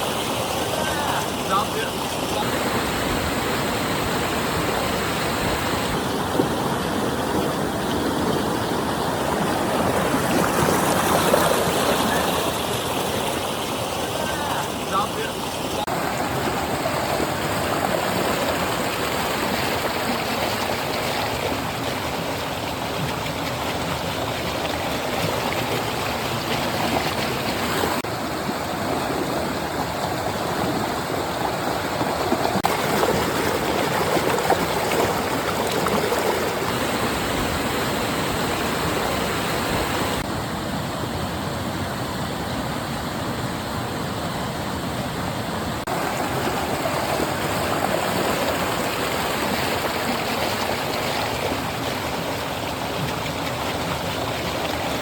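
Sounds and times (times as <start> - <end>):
stream water rushing and gurgling: 0.0 - 55.0.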